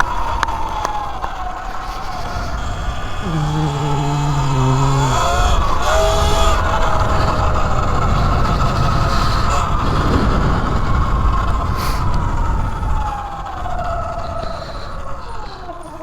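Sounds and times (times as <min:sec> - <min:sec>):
electric motor whining: 0:00.0 - 0:16.0
wind rumble on microphone: 0:00.0 - 0:16.0.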